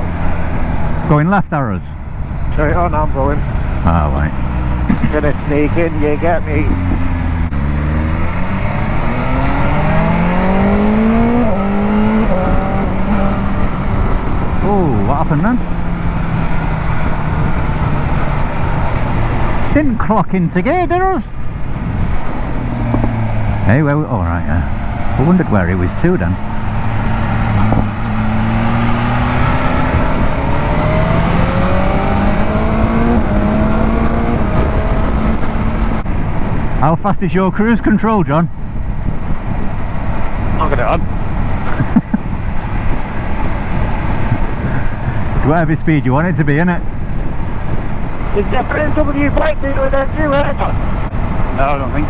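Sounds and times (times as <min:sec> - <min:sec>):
motorcycle engine accelerating: 0:00.0 - 0:36.9, 0:37.6 - 0:52.0
wind and road noise: 0:00.0 - 0:52.0.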